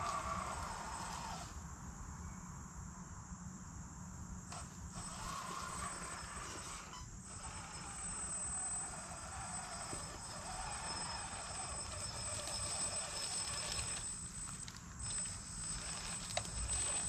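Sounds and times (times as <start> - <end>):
electric motor high whine: 0.0 - 1.7, 4.5 - 17.0.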